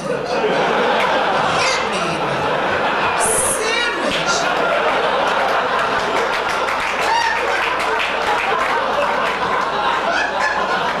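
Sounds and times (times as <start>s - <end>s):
audience laughing: 0.0s - 11.0s
audience applauding: 0.7s - 11.0s.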